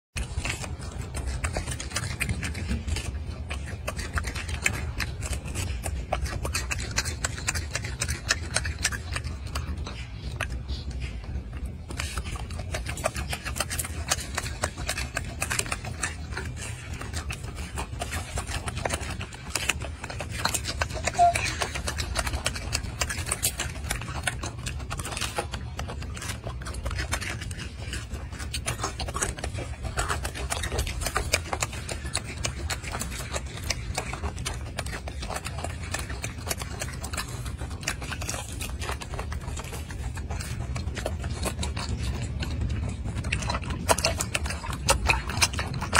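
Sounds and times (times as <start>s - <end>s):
low steady rumble: 0.2s - 45.9s
monkey chewing with smacking clicks: 0.2s - 45.9s.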